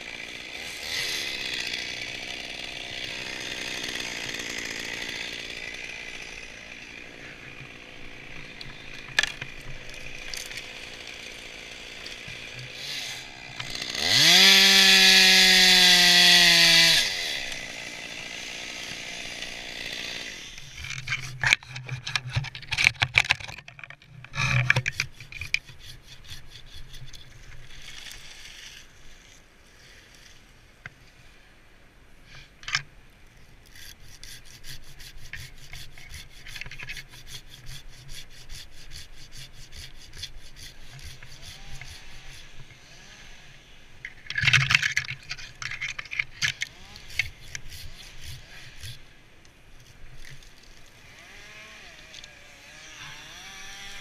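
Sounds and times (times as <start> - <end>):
handsaw cutting tree limbs: 0.0 - 28.9, 33.6 - 54.0.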